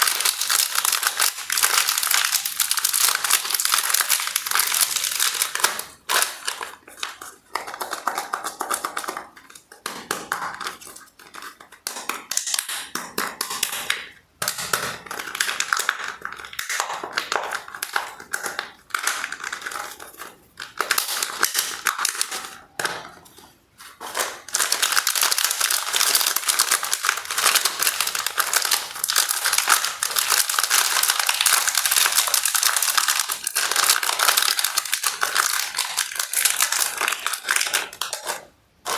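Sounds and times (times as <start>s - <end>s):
plastic wrappers crinkling: 0.0s - 12.7s, 13.8s - 38.9s.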